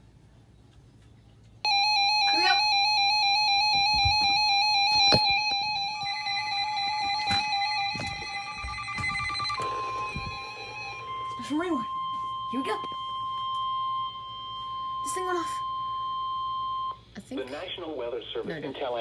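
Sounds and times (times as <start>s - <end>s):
higher alarm tone: 1.7s - 17.0s
warbling electronic alarm tone: 1.7s - 17.0s.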